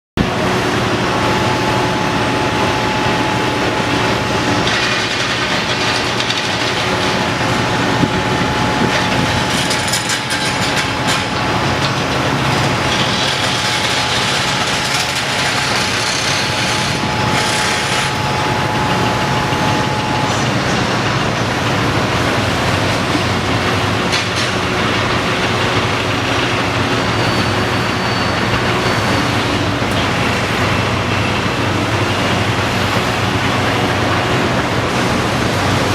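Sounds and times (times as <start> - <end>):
excavator diesel engine working: 0.2 - 35.9
thin steady whine: 6.9 - 35.9.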